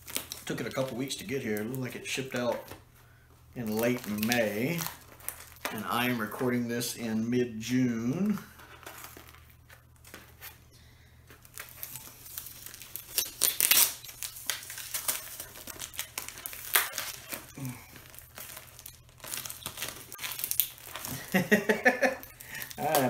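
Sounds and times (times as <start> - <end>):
parcel wrapping crinkling and tearing: 0.0 - 6.9, 7.6 - 23.0.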